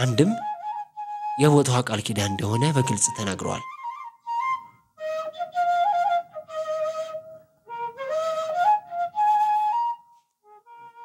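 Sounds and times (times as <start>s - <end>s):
breathy solo wind instrument melody: 0.0s - 1.5s, 2.3s - 11.0s.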